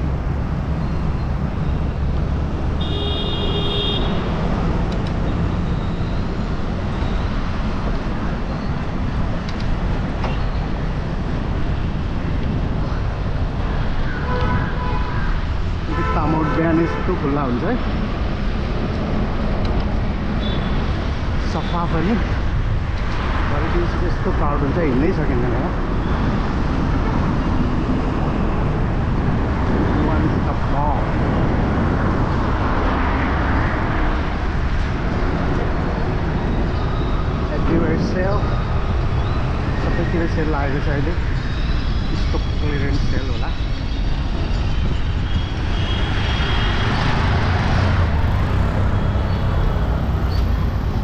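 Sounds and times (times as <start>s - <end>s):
road and traffic noise: 0.0s - 51.0s
wind rumble on microphone: 4.0s - 16.2s, 17.7s - 51.0s.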